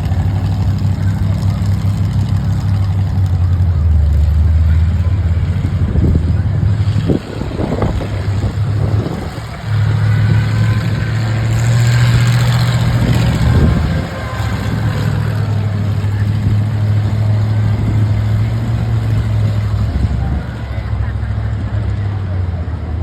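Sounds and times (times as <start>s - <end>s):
monster truck engine running: 0.0s - 23.0s.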